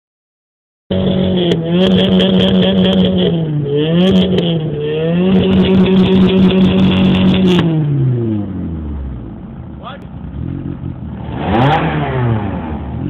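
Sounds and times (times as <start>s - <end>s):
car engine revving: 0.9s - 13.0s.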